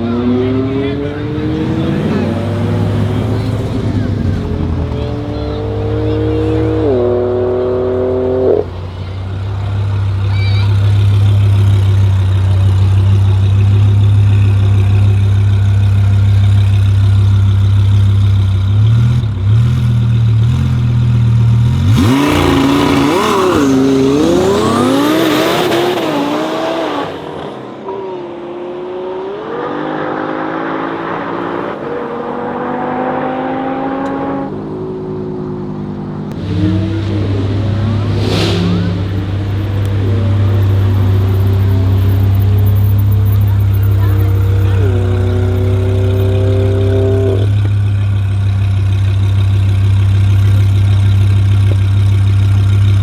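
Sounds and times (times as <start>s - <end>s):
car accelerating hard: 0.0s - 53.0s
sports car engine rumble and revs: 0.0s - 53.0s.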